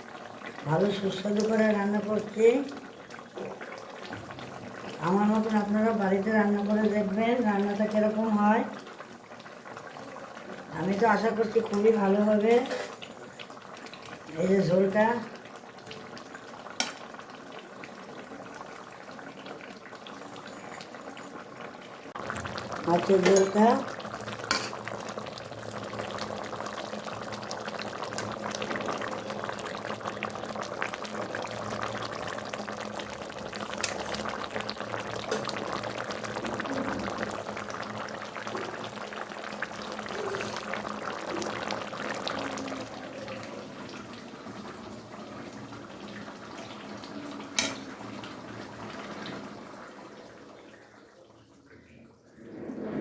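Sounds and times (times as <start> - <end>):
broth bubbling in a pan: 0.0 - 53.0.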